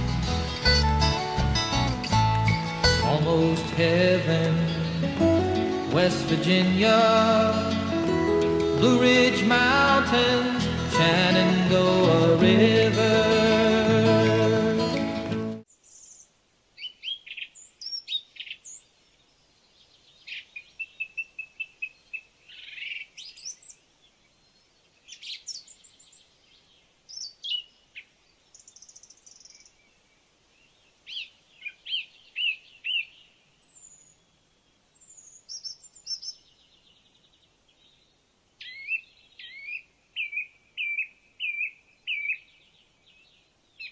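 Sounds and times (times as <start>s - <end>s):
songbirds singing and calling: 2.1s - 43.9s.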